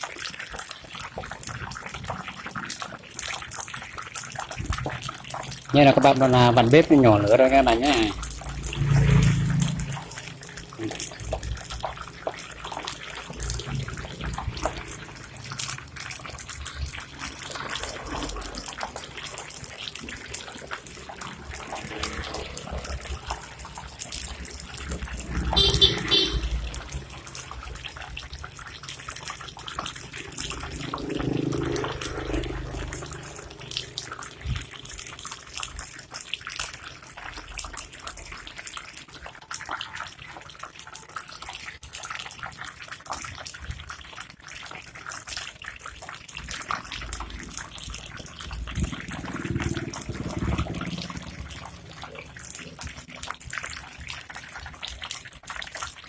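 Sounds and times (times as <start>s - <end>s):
oil sizzling and crackling: 0.0s - 56.0s.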